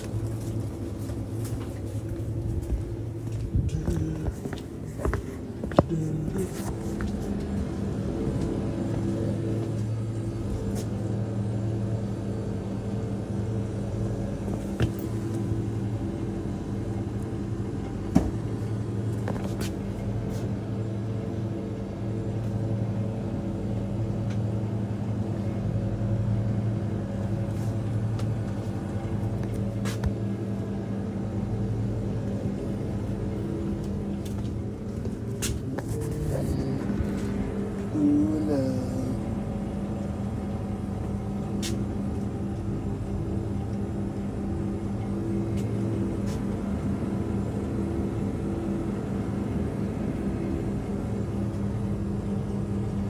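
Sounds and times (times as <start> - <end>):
refrigeration motors humming: 0.0 - 53.0.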